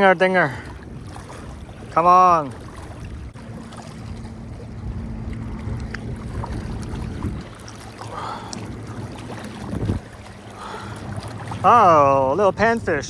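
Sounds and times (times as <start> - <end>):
low engine hum: 0.6 - 13.0.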